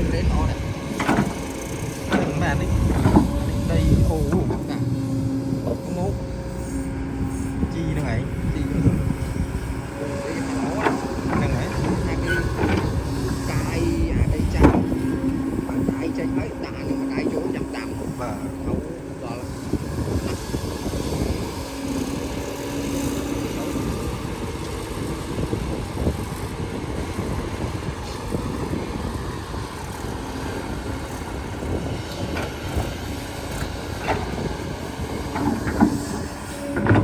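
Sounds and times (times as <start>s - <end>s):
earth-moving machinery rumbling: 0.0s - 37.0s.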